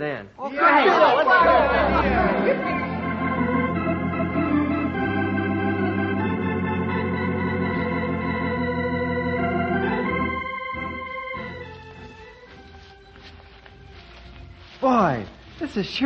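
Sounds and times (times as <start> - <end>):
organ chords: 1.0 - 16.0.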